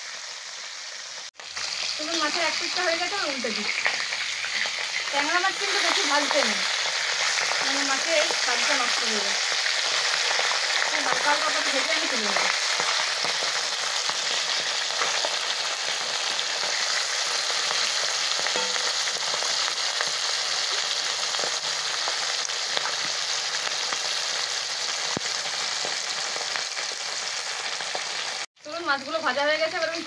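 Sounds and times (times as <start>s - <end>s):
fish sizzling in oil: 0.0s - 30.0s
oil popping and crackling: 1.2s - 28.5s.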